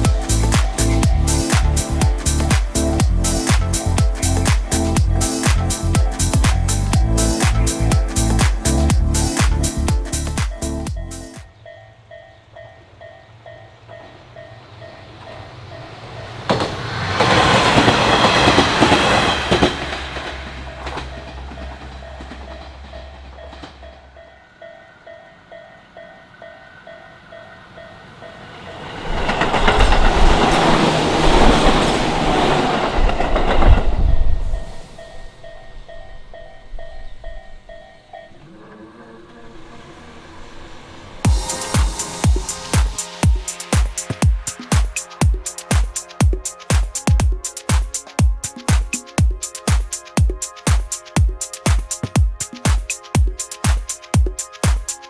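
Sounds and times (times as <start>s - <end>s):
train wheels rushing on rails: 0.0s - 11.5s, 13.3s - 36.9s, 39.4s - 55.0s
crossing warning bell: 0.0s - 33.8s, 34.4s - 46.4s.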